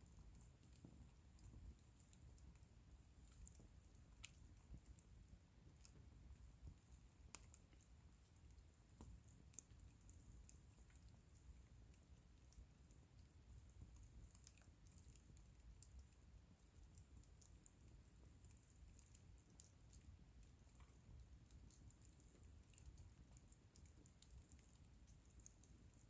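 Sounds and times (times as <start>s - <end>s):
wood bonfire crackling: 0.0s - 26.0s.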